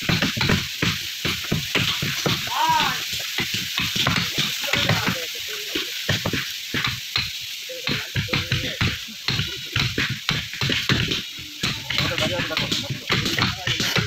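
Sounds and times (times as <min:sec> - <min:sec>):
timber and rope knocking and scraping: 0:00.0 - 0:14.0.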